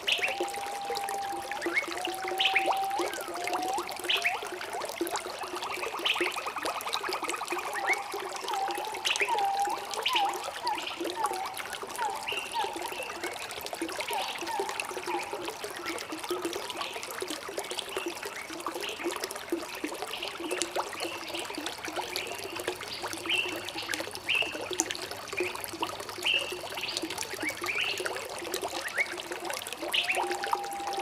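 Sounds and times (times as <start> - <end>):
stream trickling and gurgling: 0.0 - 31.0.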